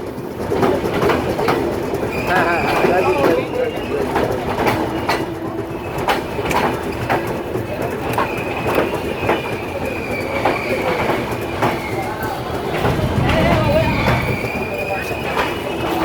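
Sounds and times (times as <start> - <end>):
wheels clacking over rail joints: 0.0 - 16.0
train wheel squeal: 1.4 - 16.0.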